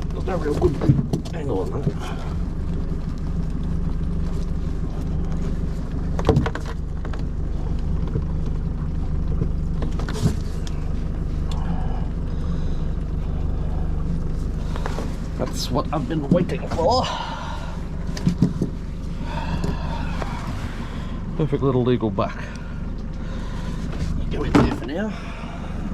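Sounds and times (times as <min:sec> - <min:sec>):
boat motor idling: 0:00.0 - 0:25.9.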